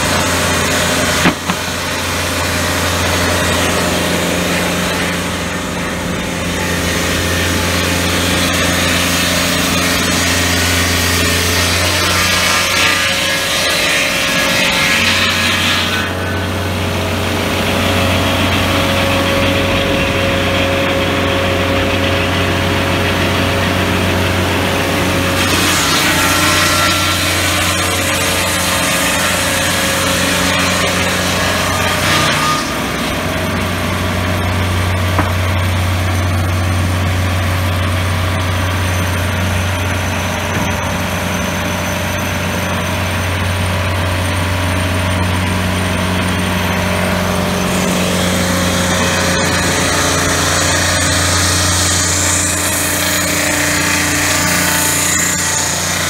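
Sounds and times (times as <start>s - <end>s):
circular saw cutting log: 0.0s - 56.0s
sawmill engine running: 0.0s - 56.0s.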